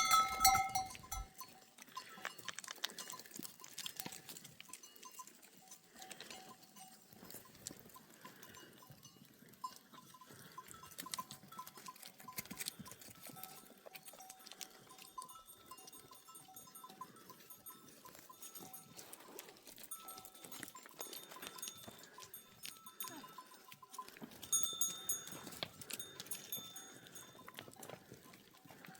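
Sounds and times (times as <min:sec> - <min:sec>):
animal bells clinking: 0:00.0 - 0:28.9.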